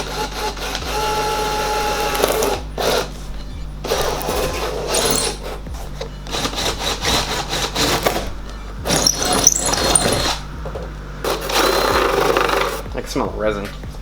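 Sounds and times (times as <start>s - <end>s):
power tool cutting: 0.0s - 3.1s, 3.9s - 10.5s, 11.2s - 12.9s.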